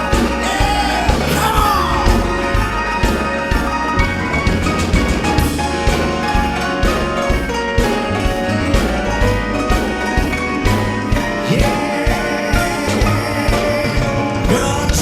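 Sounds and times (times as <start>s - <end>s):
drums keeping a steady beat: 0.0s - 15.0s
horns or keys: 0.0s - 15.0s.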